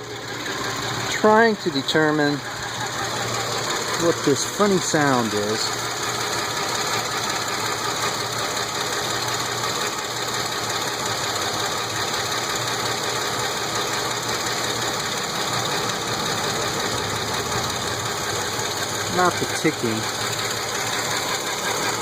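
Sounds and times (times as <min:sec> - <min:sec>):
car engine idling roughly: 0:00.0 - 0:22.0
engine ticking: 0:00.0 - 0:22.0.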